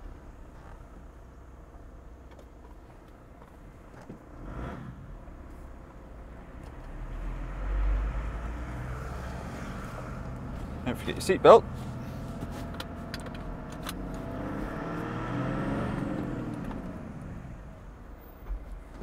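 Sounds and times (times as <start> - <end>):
diesel engine and road noise: 0.0 - 19.0.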